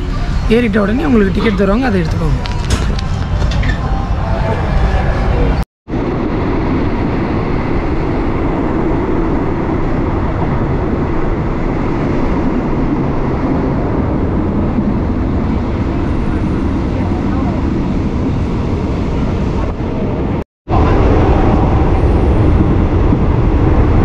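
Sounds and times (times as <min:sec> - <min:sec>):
moving train rumbling: 0:00.0 - 0:24.0.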